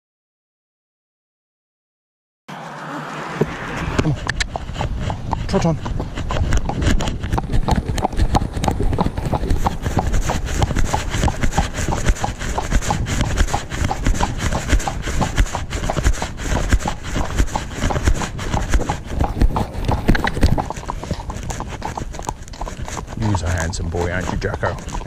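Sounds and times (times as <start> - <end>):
horse hooves trotting on road: 3.4 - 25.0.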